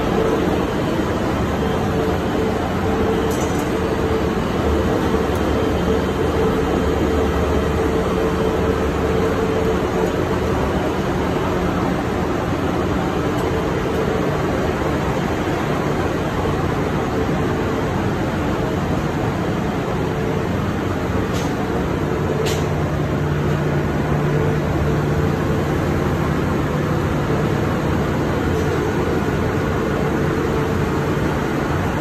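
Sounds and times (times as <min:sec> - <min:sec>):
engine room machinery drone: 0:00.0 - 0:32.0.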